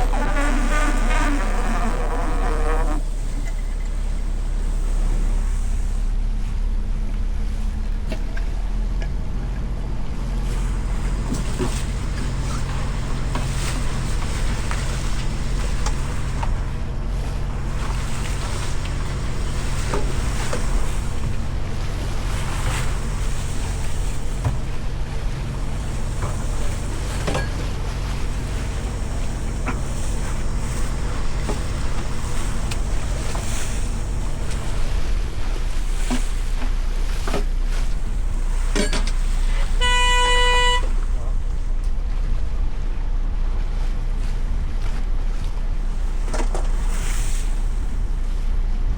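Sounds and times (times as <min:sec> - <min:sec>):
water noise: 0:00.0 - 0:06.2, 0:10.1 - 0:44.8
boat engine humming: 0:00.0 - 0:48.9
wind: 0:00.0 - 0:48.9.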